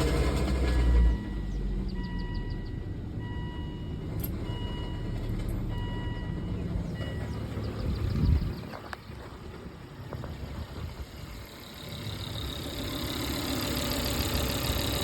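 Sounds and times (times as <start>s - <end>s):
car engine growling: 0.0s - 15.0s.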